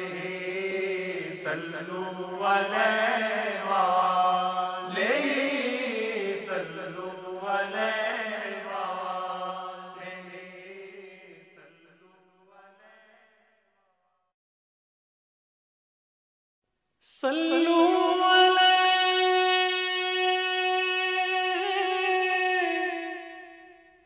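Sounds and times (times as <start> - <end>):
person chanting devotional song: 0.0 - 13.3, 17.0 - 24.0.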